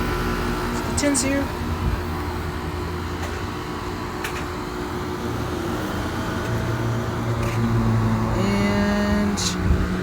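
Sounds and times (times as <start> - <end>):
compressors humming: 0.0 - 10.0
condenser fans whirring: 0.0 - 10.0.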